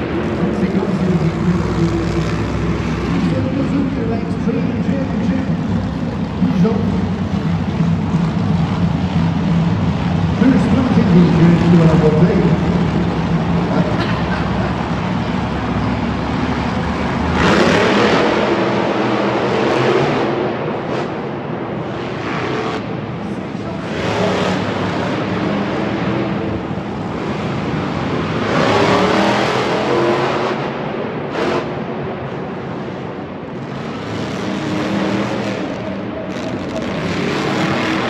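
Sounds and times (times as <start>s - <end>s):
monster truck engines revving: 0.0s - 38.0s.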